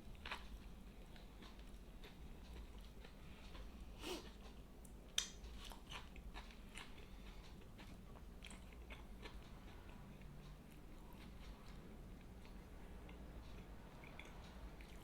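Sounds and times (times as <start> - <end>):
chewing and biting sandwich: 0.1 - 4.6, 5.2 - 15.0.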